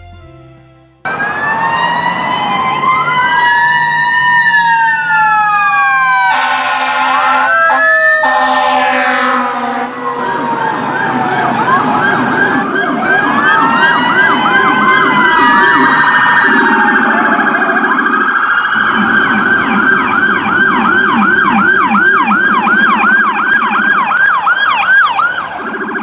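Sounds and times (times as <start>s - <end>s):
low warbling siren tone: 1.0s - 26.0s
rising and falling siren wails: 1.0s - 26.0s
fast siren yelp: 1.1s - 26.0s.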